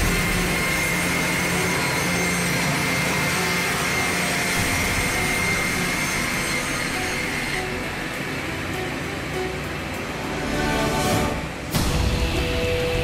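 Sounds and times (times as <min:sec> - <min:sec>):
high saw whine: 0:00.0 - 0:13.0.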